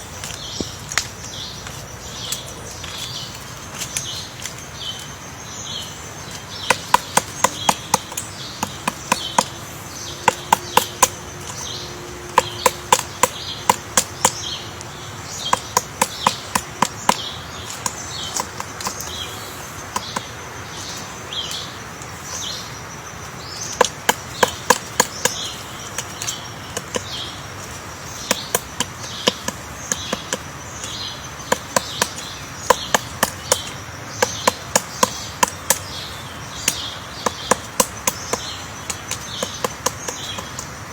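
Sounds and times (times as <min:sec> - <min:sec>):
small birds chirping: 0:00.0 - 0:40.9
woodpecker pecking wood: 0:05.8 - 0:40.9.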